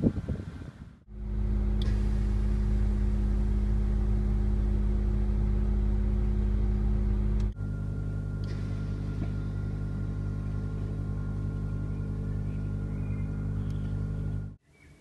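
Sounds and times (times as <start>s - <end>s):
compressor electric motor hum: 1.1s - 14.6s.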